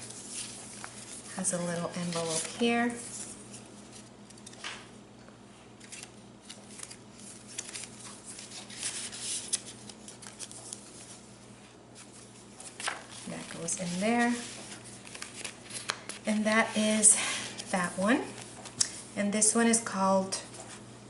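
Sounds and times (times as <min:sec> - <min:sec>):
paper rustling: 0:00.0 - 0:04.9, 0:05.8 - 0:11.3, 0:12.0 - 0:19.0.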